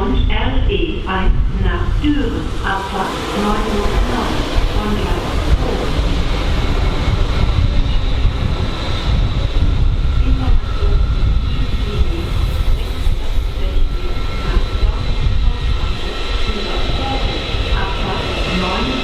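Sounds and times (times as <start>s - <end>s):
faint steady tones: 0.0s - 19.0s
train rumbling: 0.0s - 19.0s.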